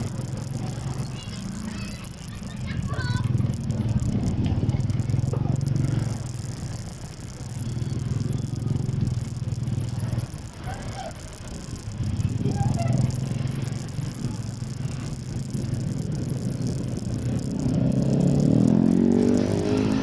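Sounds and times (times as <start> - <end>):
small motorcycle engine: 0.0 - 20.0.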